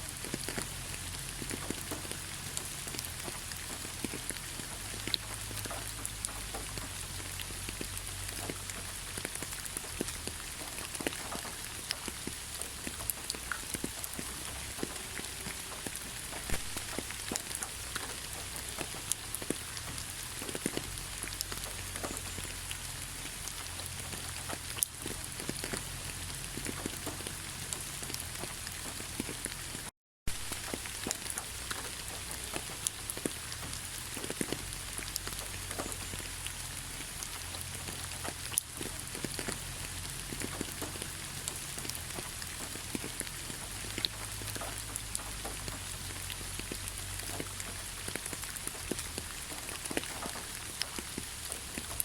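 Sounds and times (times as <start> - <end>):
heavy rain falling: 0.0 - 52.0
raindrops ticking on a surface: 0.0 - 52.0.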